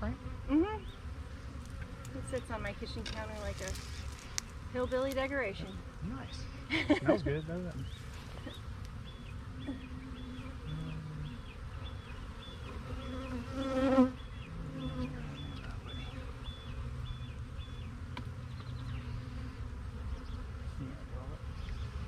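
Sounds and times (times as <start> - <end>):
bee buzzing close by: 0.0 - 22.0
bees humming: 0.0 - 22.0.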